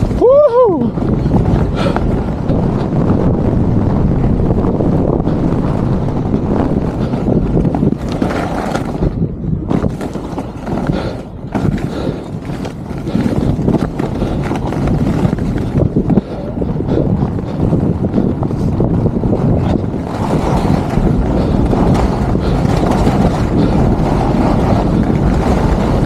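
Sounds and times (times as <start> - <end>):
skis scraping over snow: 0.0 - 26.0
wind rushing over microphone: 0.0 - 26.0.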